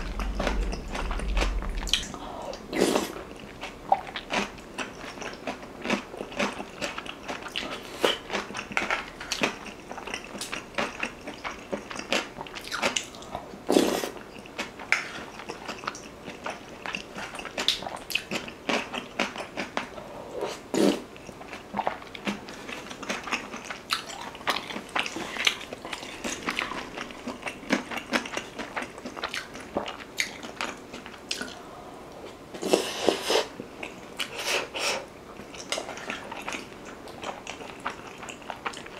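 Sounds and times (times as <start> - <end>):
wet chewing and slurping: 0.0 - 31.6, 32.2 - 38.9.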